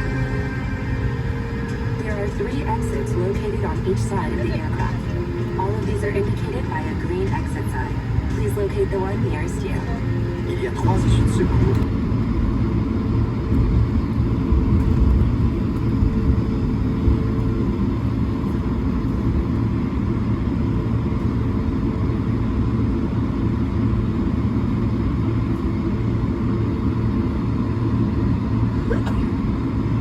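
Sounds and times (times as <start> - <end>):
jet engines roaring in cabin: 0.0 - 30.0.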